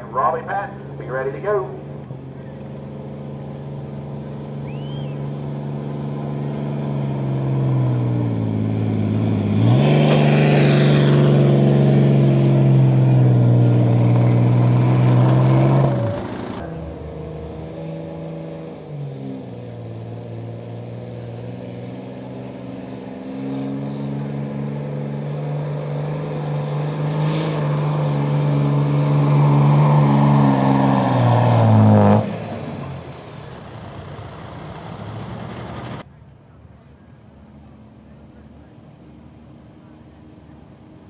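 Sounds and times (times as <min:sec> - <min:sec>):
pickup engine idling and revving: 0:00.0 - 0:36.1, 0:36.9 - 0:41.0
pickup truck engine at full throttle: 0:00.0 - 0:36.1.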